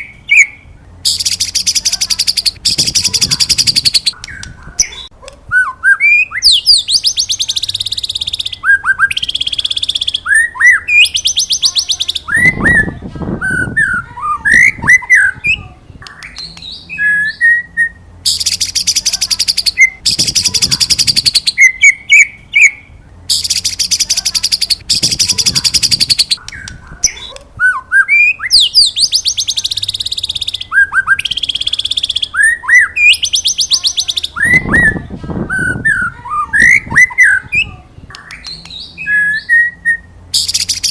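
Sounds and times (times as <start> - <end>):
bird singing whistles and trills: 0.0 - 40.9.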